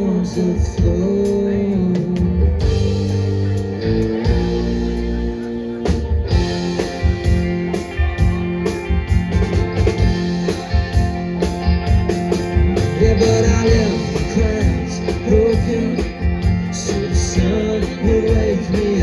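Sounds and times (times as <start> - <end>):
bass: 0.0 - 19.0
drum kit beat: 0.0 - 19.0
guitar: 0.0 - 19.0
rock band playing: 0.0 - 19.0.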